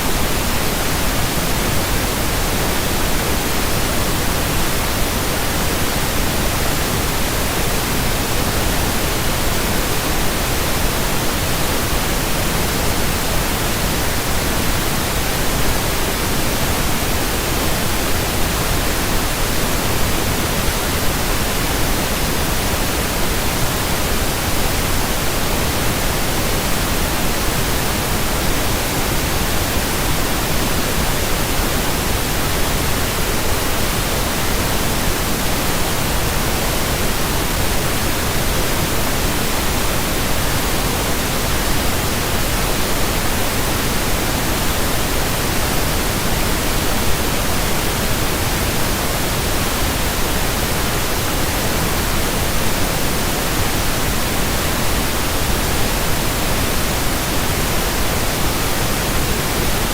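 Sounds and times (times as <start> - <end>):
steady pink noise: 0.0 - 59.9.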